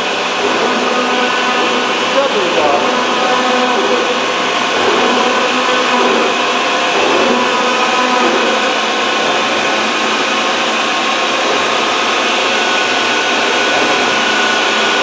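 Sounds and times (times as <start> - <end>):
drilling machine whirring hiss: 0.0 - 15.0.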